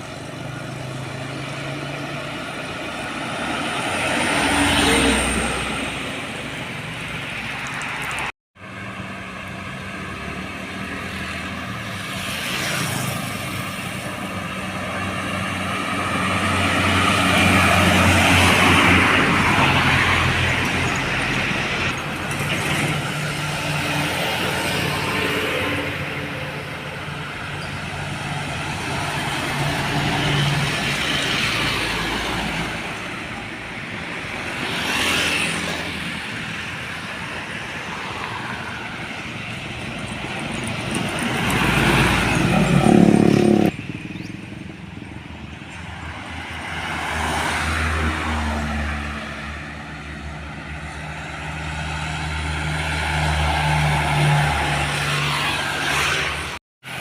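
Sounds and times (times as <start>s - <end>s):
vehicles passing: 0.0s - 57.0s.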